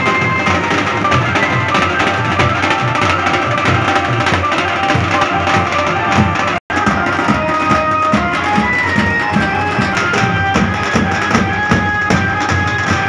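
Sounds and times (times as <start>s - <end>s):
bass and snare drums playing: 0.0s - 13.0s
high melody line: 0.0s - 13.0s.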